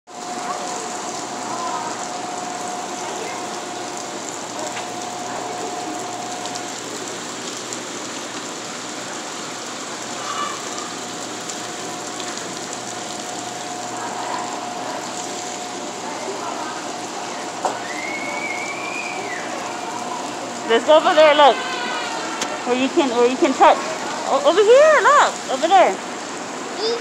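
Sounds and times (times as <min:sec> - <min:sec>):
faint steady hum: 0:00.1 - 0:26.7
fountain water splashing: 0:00.1 - 0:27.0.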